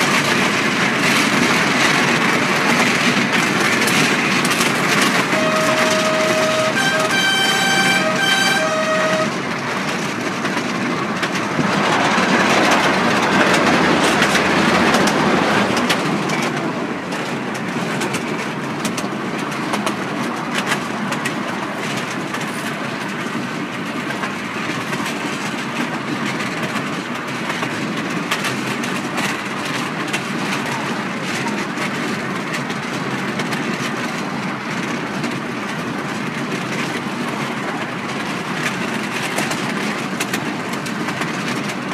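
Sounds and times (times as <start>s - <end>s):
miniature train rumbling: 0.0s - 41.9s
wheels clicking over rail joints: 0.0s - 41.9s.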